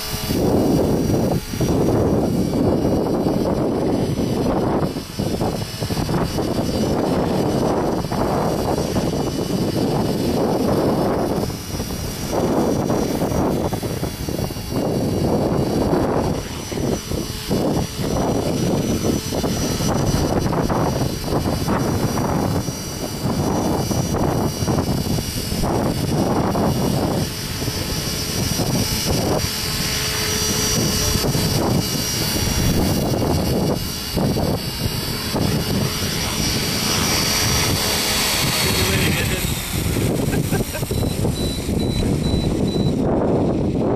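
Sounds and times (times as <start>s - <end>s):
electric model helicopter whine: 0.0s - 43.9s
wind buffeting microphone: 0.0s - 43.9s.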